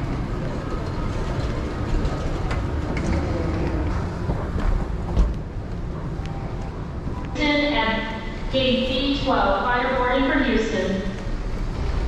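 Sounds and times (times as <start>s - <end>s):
low rumble of terminal noise: 0.0s - 12.0s.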